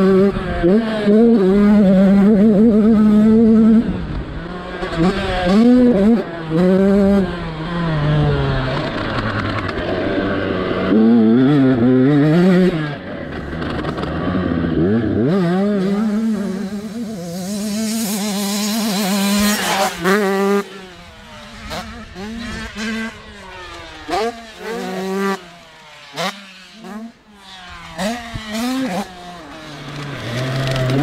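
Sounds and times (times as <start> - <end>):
motocross engine revving: 0.0 - 31.0.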